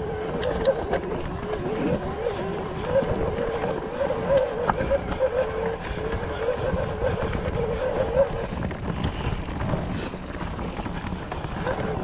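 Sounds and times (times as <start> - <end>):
tyres rumbling on dirt trail: 0.0 - 12.0.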